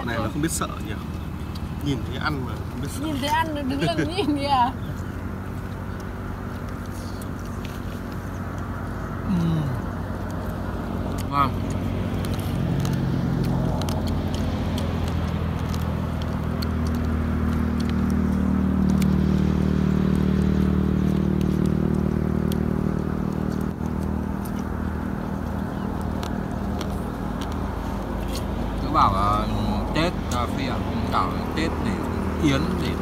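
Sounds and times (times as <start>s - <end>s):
clicks of people eating: 0.0s - 4.1s, 4.8s - 33.0s
engine humming: 0.0s - 33.0s.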